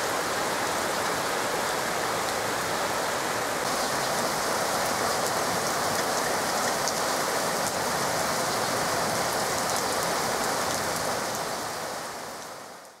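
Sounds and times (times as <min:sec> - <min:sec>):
heavy rain on grass and concrete: 0:00.0 - 0:13.0.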